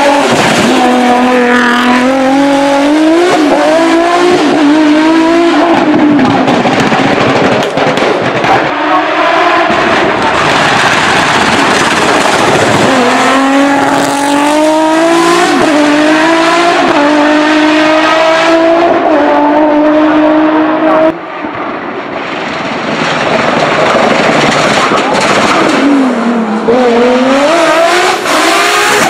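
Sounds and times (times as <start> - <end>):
race car engine at full throttle: 0.0 - 29.0.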